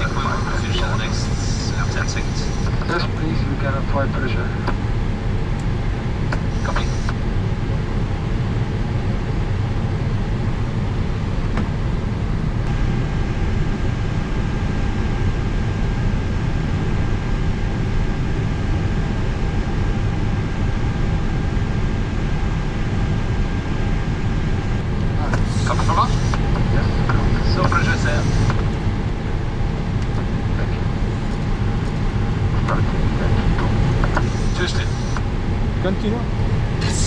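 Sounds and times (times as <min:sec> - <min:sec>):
low rumble of aircraft systems: 0:00.0 - 0:37.0.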